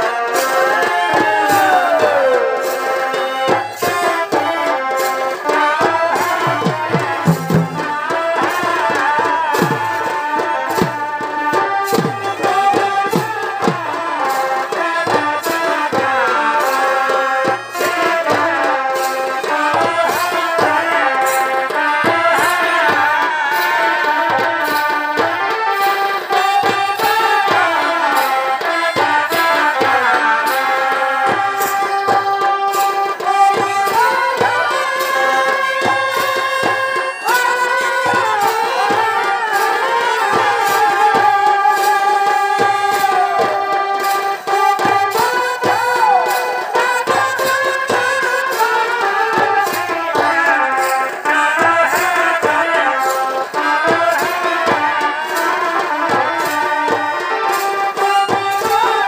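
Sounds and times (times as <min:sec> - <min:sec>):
fast drumming: 0:00.0 - 0:59.0
reed pipe melody: 0:00.0 - 0:59.0.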